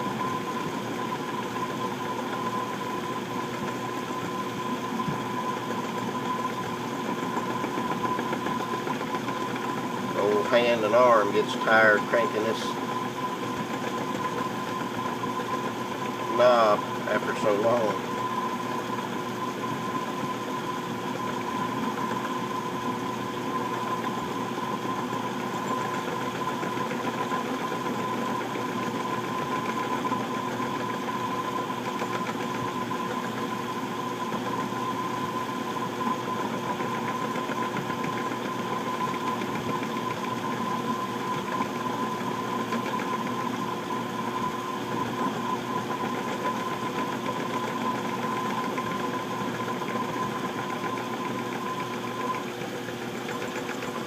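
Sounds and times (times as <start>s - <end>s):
high lathe whine: 0.0s - 54.0s
metal lathe motor hum: 0.0s - 54.0s.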